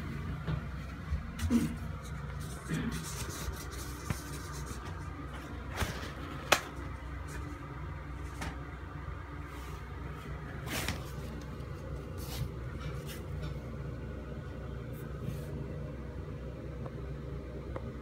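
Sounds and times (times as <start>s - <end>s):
exhaust fan humming: 0.0s - 18.0s.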